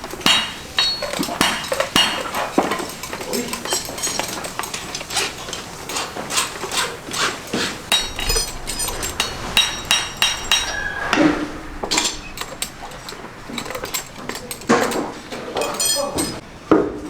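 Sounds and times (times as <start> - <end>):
hammer striking metal horseshoe: 0.0 - 16.4.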